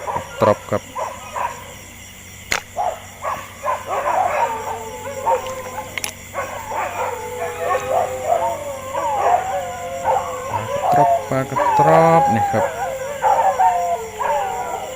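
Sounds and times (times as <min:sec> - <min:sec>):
dogs howling and yelping: 0:00.0 - 0:01.8, 0:02.7 - 0:14.9.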